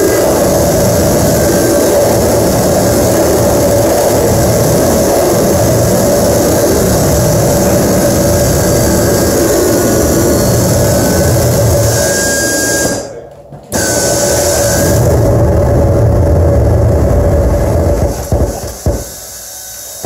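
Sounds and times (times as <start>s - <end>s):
live band distorted music: 0.0s - 13.2s, 13.8s - 19.0s.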